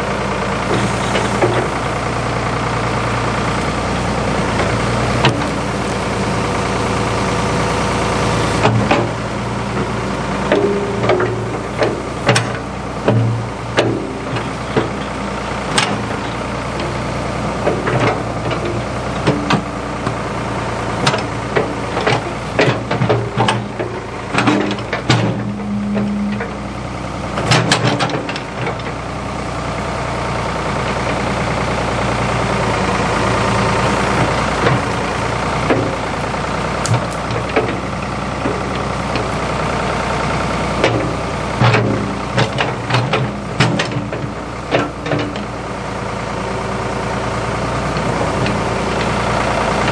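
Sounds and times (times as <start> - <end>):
backhoe engine running: 0.0 - 49.9.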